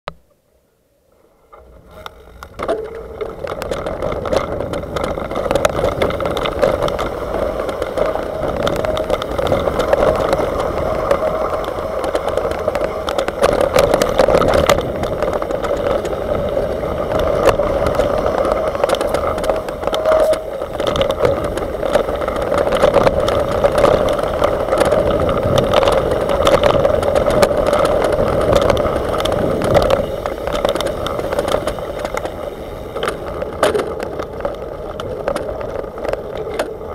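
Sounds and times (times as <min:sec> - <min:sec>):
wind: 0:00.1 - 0:36.9
bike rattling and knocks: 0:01.4 - 0:36.9
tyres rushing on dirt: 0:01.6 - 0:36.9.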